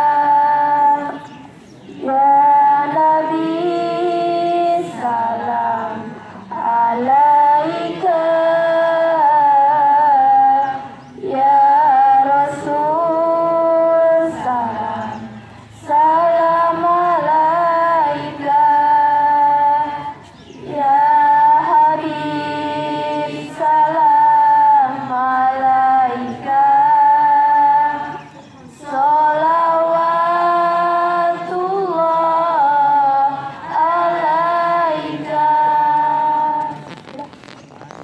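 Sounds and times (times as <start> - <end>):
woman chanting recitation: 0.0 - 37.4.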